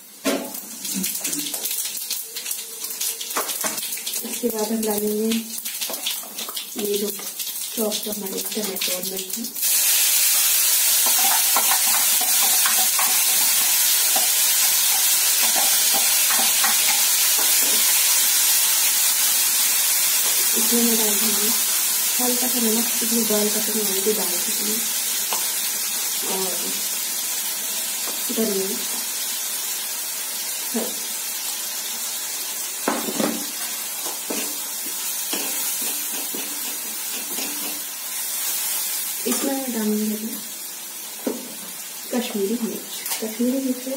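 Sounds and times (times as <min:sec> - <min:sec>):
vegetables sizzling in hot oil: 0:00.0 - 0:43.9.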